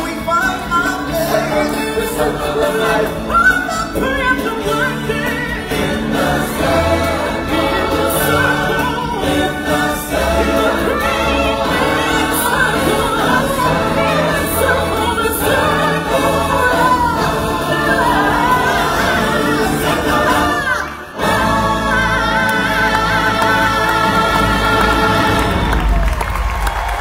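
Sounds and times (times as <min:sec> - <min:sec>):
choir singing with band: 0:00.0 - 0:26.4.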